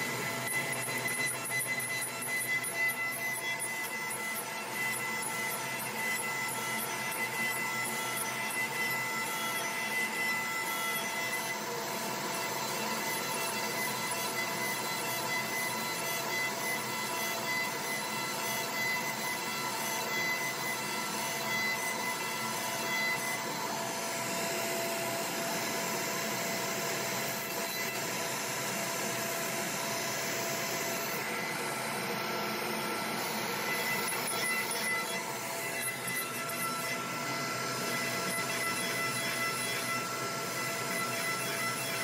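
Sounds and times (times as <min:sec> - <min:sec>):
router bit cutting wood: 0:00.0 - 0:42.0
router spindle whining: 0:00.0 - 0:42.0.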